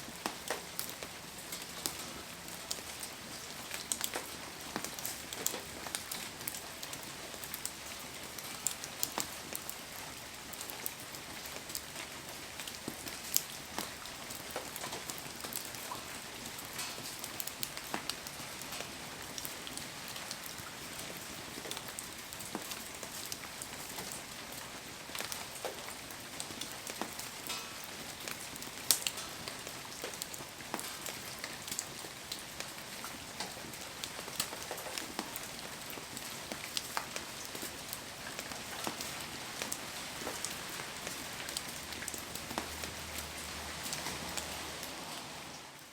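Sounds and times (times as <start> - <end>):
heavy rain: 0.0 - 45.9.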